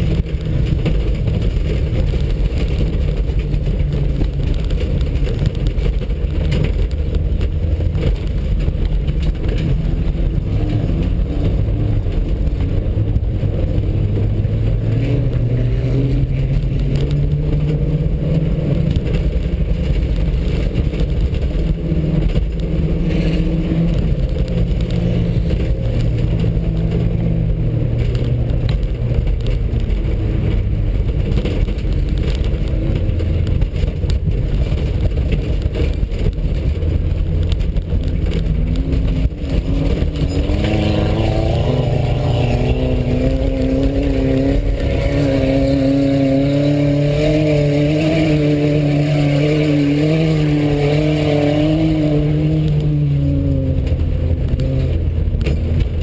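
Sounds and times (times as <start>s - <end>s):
car engine running hard: 0.0s - 56.0s
tyres rumbling on dirt: 0.0s - 56.0s.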